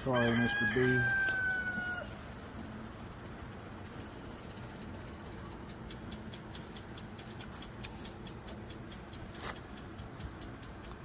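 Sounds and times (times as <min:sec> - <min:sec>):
lawn sprinkler ticking: 0:00.0 - 0:11.0
low steady hum: 0:00.0 - 0:11.0.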